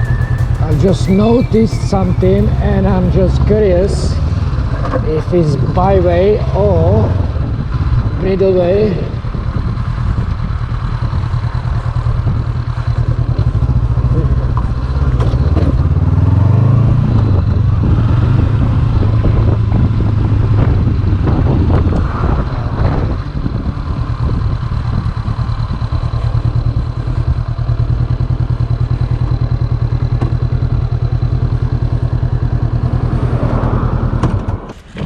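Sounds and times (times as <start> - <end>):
motorcycle engine idling: 0.0 - 16.4, 17.0 - 35.0.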